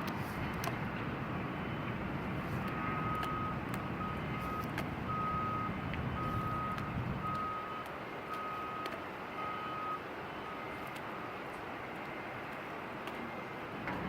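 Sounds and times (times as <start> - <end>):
steady low rumble: 0.0 - 14.0
reversing alarm beeping: 1.4 - 14.0.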